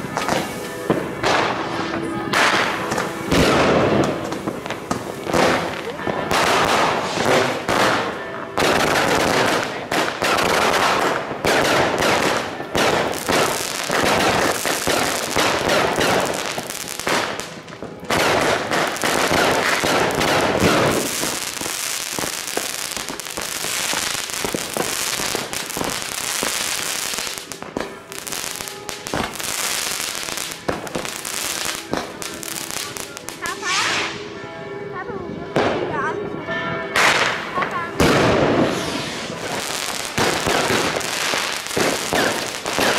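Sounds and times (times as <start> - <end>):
fireworks crackling and banging: 0.0 - 34.4, 35.5 - 42.9.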